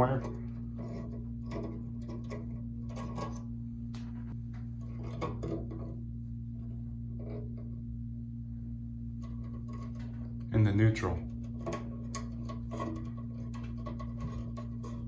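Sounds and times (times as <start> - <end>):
wire nut clicking and scraping: 0.0 - 6.0, 7.1 - 7.8, 9.1 - 10.6, 11.2 - 15.0
steady low hum: 0.0 - 15.0.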